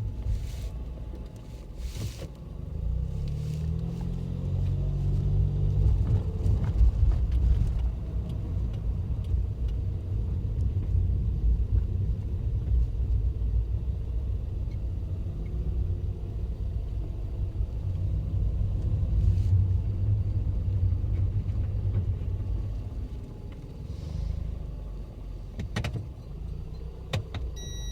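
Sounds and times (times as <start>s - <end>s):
car engine rumble: 0.0s - 27.9s.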